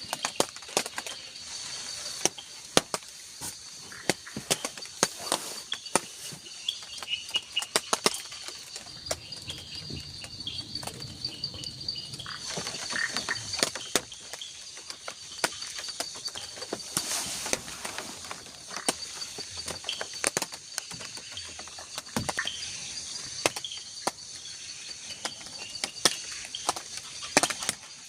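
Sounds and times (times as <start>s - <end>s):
crickets and insects chirping: 0.0s - 28.0s.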